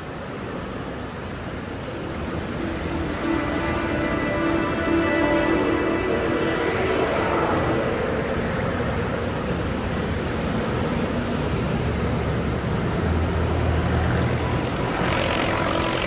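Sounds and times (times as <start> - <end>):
street traffic rushing: 0.0 - 16.0.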